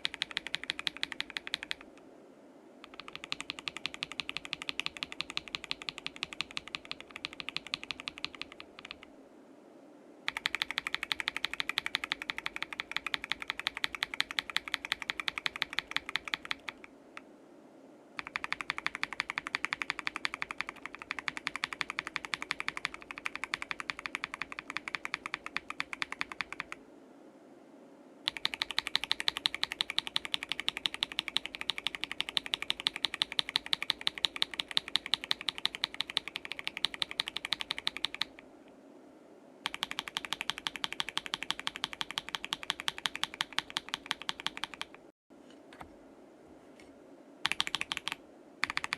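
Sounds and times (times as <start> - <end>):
fast typing on mechanical keyboard: 0.0 - 1.9, 2.8 - 9.1, 10.3 - 16.9, 18.2 - 26.8, 28.3 - 38.4, 39.6 - 45.1, 47.4 - 48.9.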